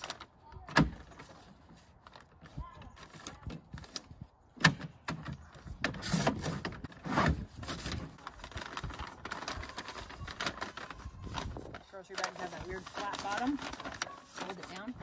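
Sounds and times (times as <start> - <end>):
paper bag crinkling: 0.0 - 4.2, 5.5 - 15.0.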